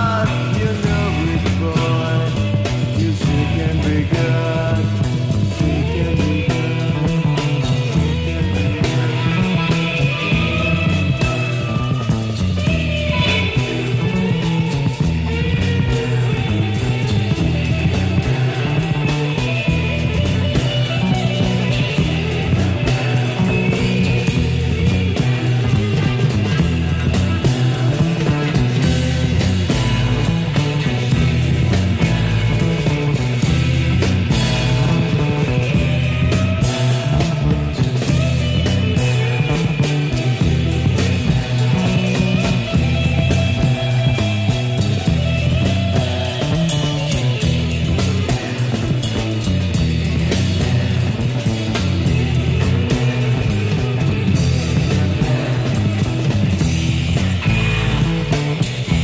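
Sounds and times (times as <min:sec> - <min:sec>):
busy bass line: 0:00.0 - 0:59.0
drums: 0:00.0 - 0:59.0
electric guitar: 0:00.0 - 0:59.0.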